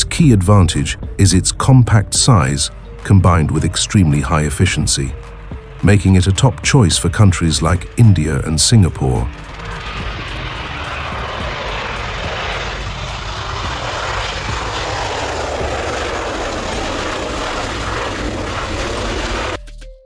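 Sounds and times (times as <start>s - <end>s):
jet engines rushing: 0.0s - 19.6s.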